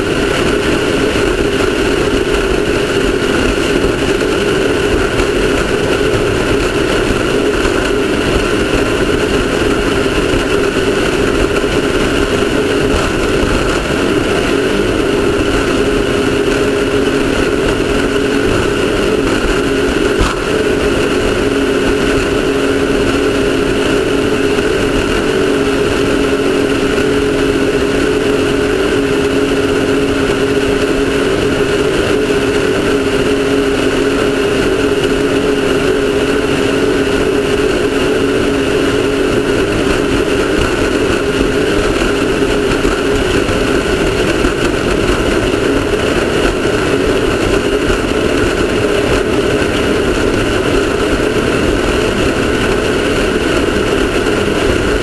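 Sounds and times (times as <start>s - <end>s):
loud rushing noise: 0.0s - 55.0s
race car engine running: 0.0s - 55.0s.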